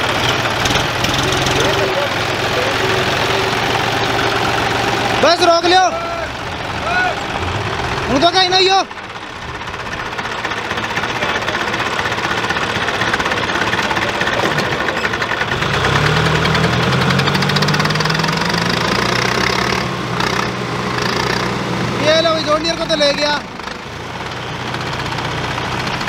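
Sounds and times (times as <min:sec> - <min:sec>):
clattering diesel knock: 0:00.0 - 0:21.6
deep steady engine note: 0:00.0 - 0:26.0
tractor diesel engines straining: 0:00.0 - 0:26.0.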